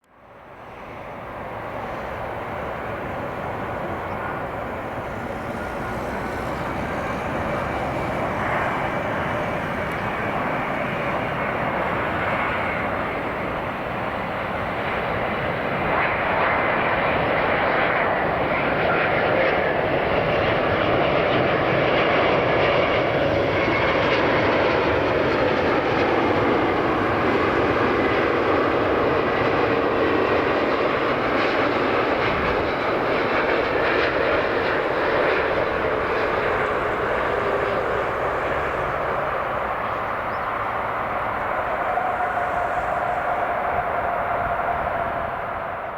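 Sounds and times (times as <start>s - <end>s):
jet engines rushing: 0.1s - 45.9s.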